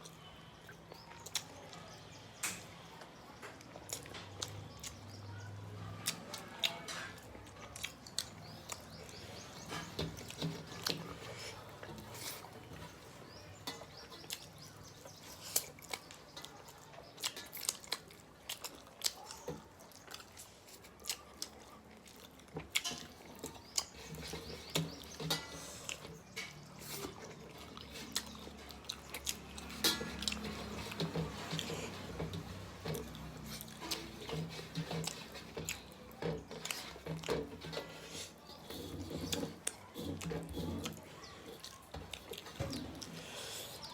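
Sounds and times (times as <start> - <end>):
sharp eating clicks: 0.0 - 43.9
chewing and lip smacks: 2.6 - 43.9.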